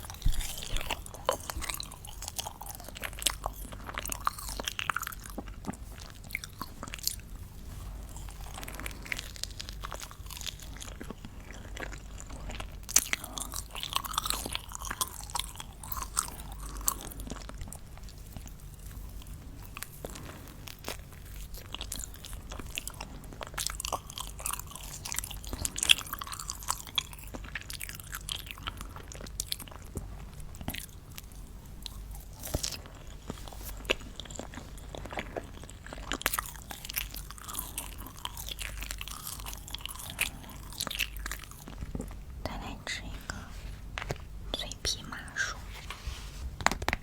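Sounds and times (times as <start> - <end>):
crunching crisp sweets: 0.0 - 45.5.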